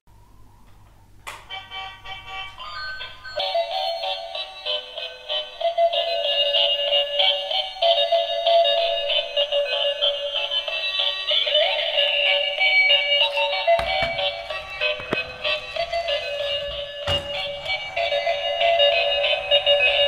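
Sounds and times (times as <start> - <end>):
tinny electronic toy tune: 1.5 - 20.0.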